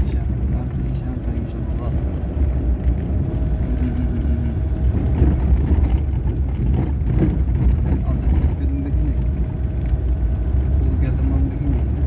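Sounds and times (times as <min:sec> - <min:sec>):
low rumble of tyres and engine: 0:00.0 - 0:12.0.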